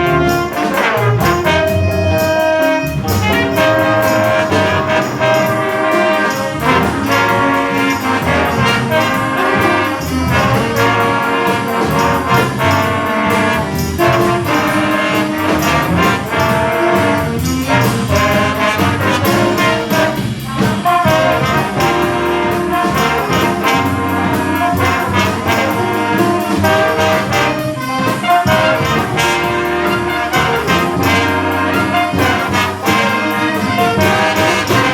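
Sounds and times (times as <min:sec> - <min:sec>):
brass section riffs: 0:00.0 - 0:34.9
jazz band playing funk: 0:00.0 - 0:34.9.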